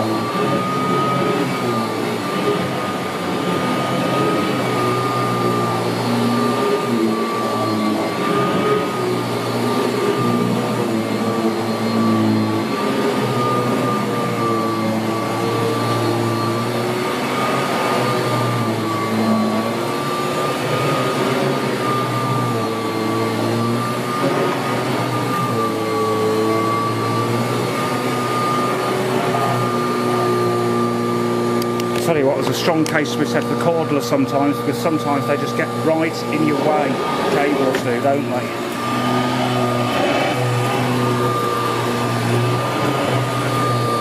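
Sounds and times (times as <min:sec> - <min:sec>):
vacuum cleaner running on carpet: 0:00.0 - 0:44.0.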